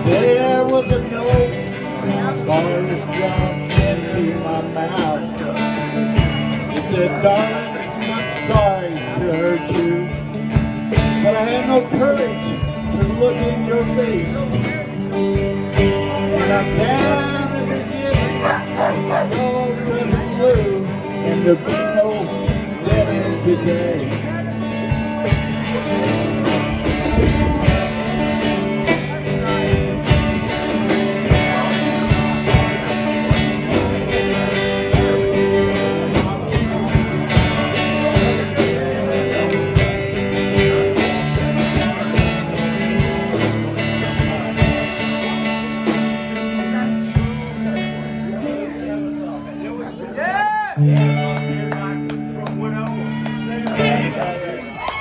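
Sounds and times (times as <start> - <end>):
drum kit beat: 0.0 - 49.4
guitars playing: 0.0 - 55.0.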